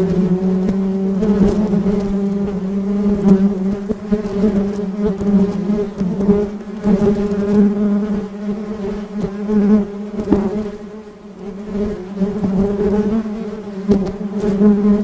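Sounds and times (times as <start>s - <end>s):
bee buzzing: 0.0s - 15.0s.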